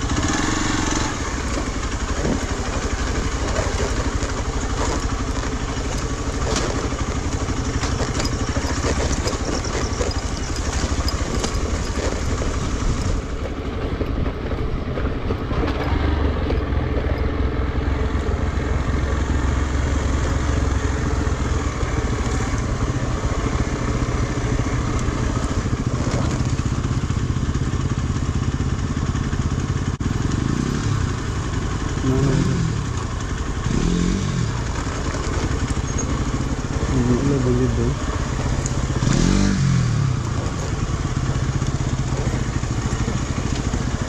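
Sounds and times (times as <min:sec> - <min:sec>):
motorcycle engine at low speed: 0:00.0 - 0:44.0.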